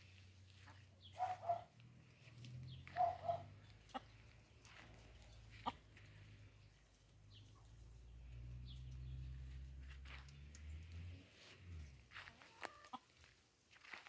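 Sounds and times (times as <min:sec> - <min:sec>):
chickens clucking: 0:00.1 - 0:13.4.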